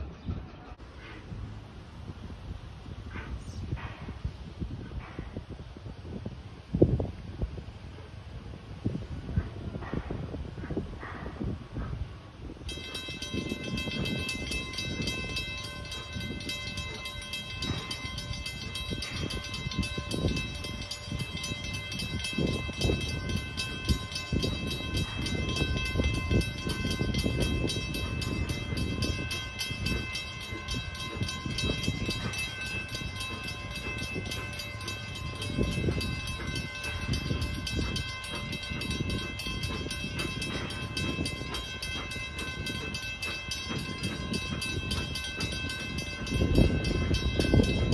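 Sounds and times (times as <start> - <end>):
train rumbling on track: 9.2 - 47.9.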